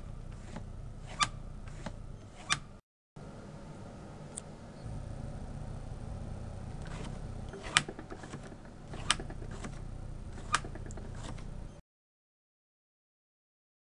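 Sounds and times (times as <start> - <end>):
low steady hum: 0.0 - 11.8.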